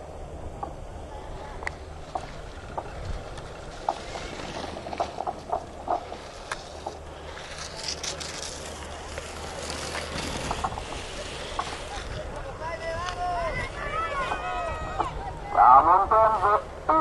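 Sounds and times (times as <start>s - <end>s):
low rumble: 0.0s - 17.0s
skis scraping on snow: 1.3s - 15.2s.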